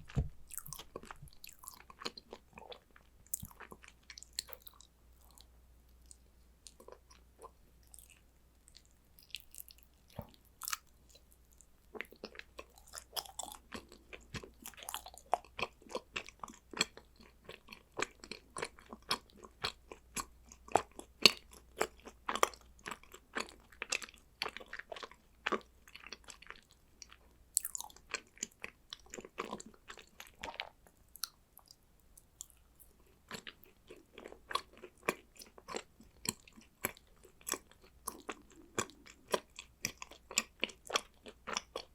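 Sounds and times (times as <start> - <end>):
chewing and crunching snacks: 0.0 - 41.9.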